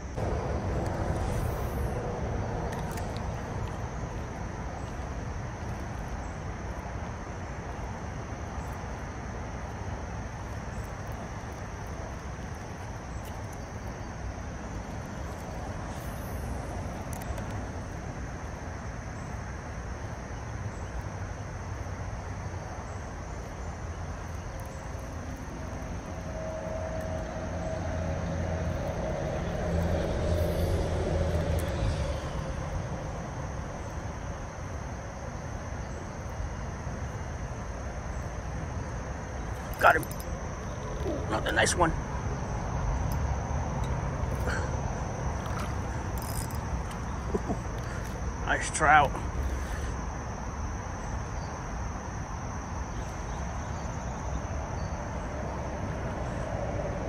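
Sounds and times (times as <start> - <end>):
low droning hum: 0.0 - 19.4, 22.1 - 51.8
outdoor rumble and hiss: 0.0 - 57.0.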